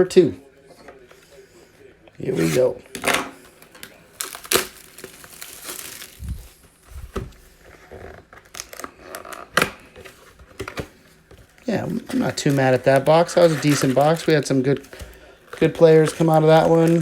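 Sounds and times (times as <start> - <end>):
plastic wrapping tearing and crinkling: 2.4 - 17.0.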